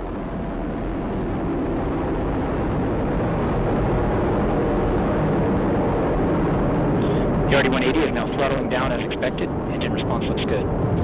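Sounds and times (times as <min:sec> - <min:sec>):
rumbling rocket roar: 0:00.0 - 0:11.0.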